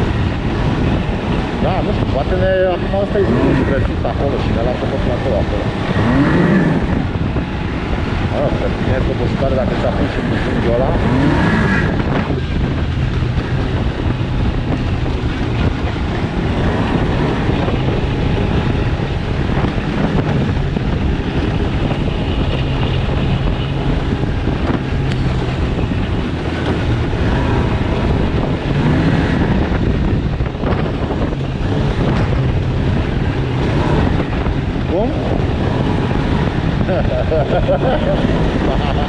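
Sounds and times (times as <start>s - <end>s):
snowmobile engine running: 0.0s - 39.0s
wind buffeting microphone: 0.0s - 39.0s.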